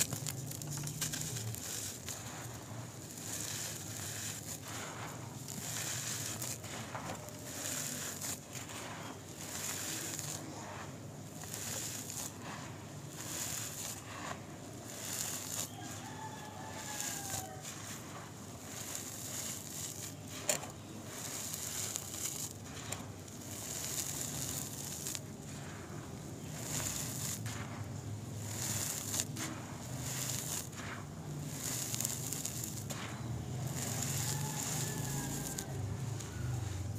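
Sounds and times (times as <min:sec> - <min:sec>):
dry dirt crunching: 0:00.0 - 0:36.9
loose soil trickling: 0:00.0 - 0:36.9.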